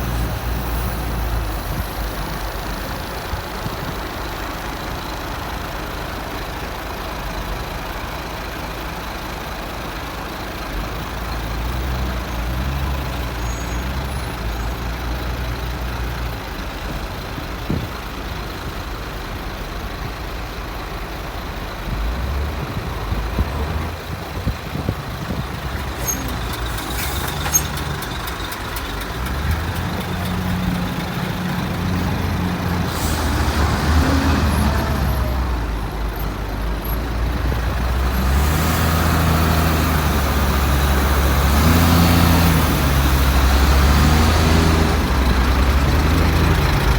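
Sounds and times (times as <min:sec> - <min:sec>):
diesel engines revving: 0:00.0 - 0:46.9.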